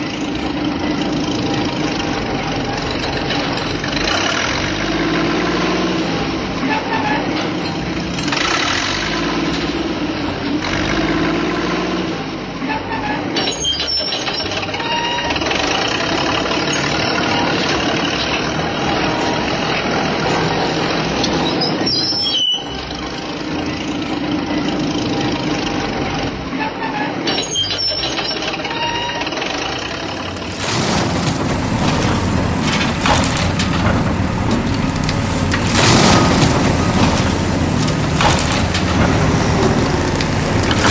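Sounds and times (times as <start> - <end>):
heavy truck engine running: 0.0 - 12.9, 14.8 - 26.6, 28.7 - 40.9.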